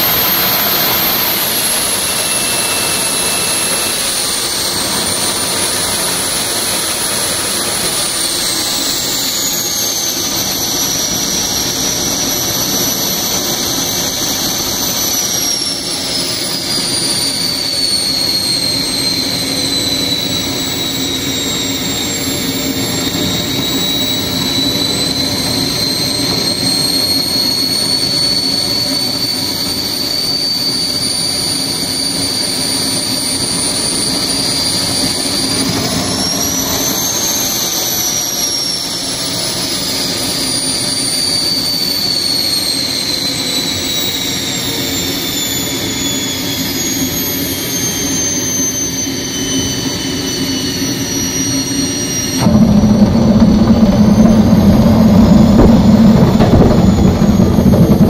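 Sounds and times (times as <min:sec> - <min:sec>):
turbojet engine rushing and whining: 0:00.0 - 0:58.0.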